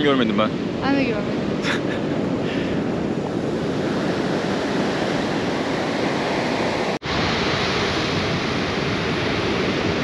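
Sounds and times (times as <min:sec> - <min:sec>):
ocean surf: 0:00.0 - 0:10.0
wind buffeting microphone: 0:00.0 - 0:10.0.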